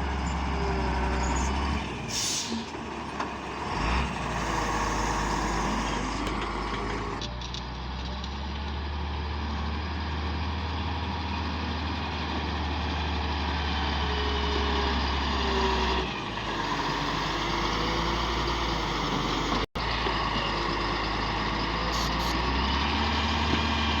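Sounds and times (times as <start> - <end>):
diesel engine drone: 0.0 - 24.0.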